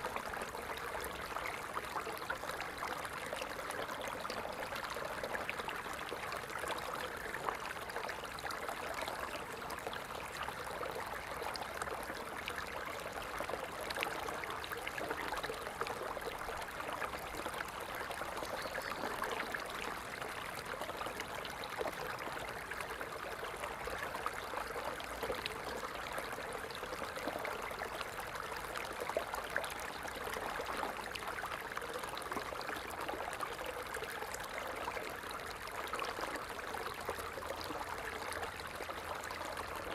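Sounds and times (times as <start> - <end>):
water splashing in a steady stream: 0.0 - 39.9.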